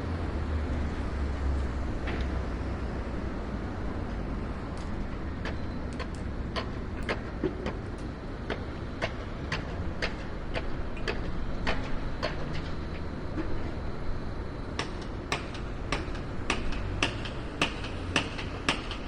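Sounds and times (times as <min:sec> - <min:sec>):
distant traffic and machinery rumble: 0:00.0 - 0:19.0.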